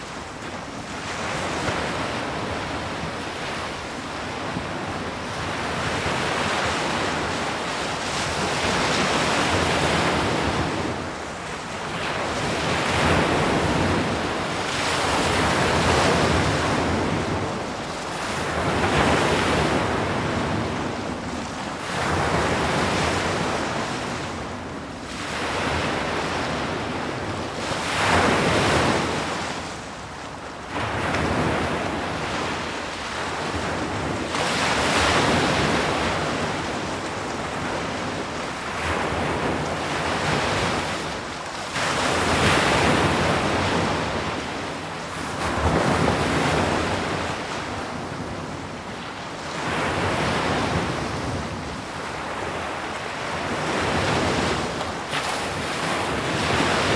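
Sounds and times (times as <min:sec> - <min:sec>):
sea waves breaking on shore: 0:00.0 - 0:56.9.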